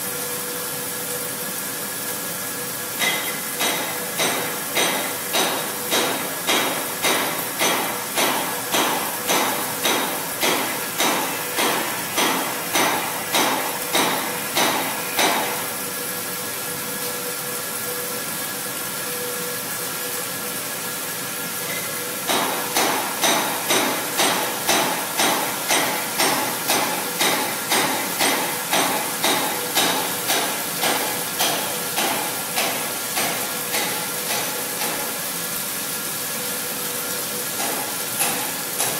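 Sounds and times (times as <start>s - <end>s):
metal cutting and coolant hiss: 0.0s - 38.9s.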